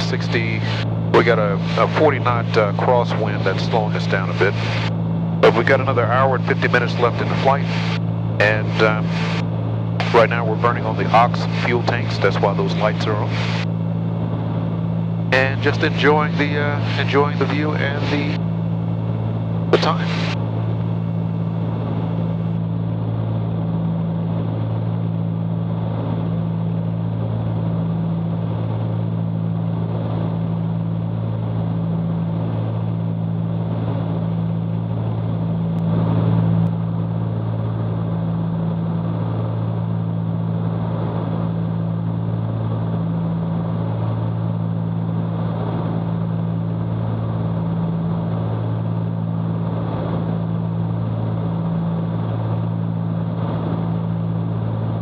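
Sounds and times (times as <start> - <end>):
propeller plane engines droning: 0.0 - 55.0.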